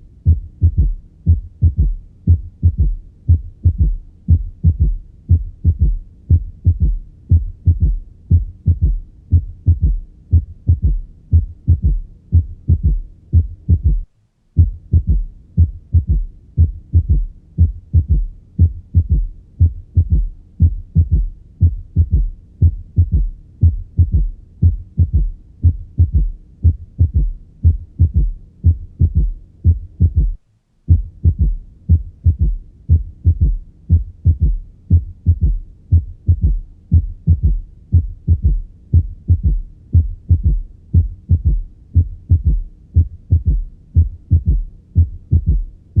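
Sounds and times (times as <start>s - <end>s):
heartbeat through stethoscope: 0.0s - 46.0s.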